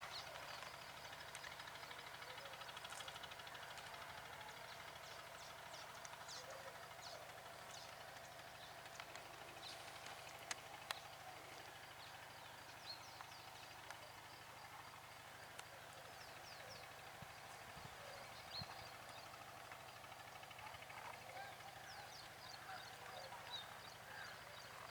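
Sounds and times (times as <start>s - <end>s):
chattering chorus of birds: 0.0s - 24.9s.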